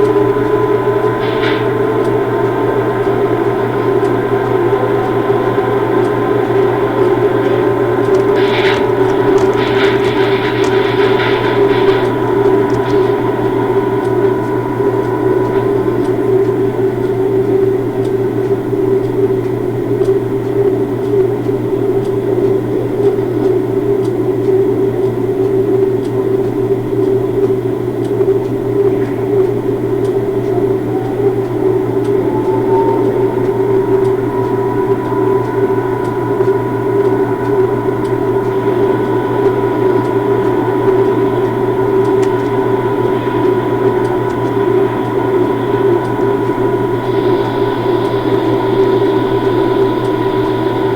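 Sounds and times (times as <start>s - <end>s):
locomotive idling hum: 0.0s - 19.9s, 27.8s - 50.9s
faint rising whine: 0.0s - 24.6s, 25.3s - 50.9s.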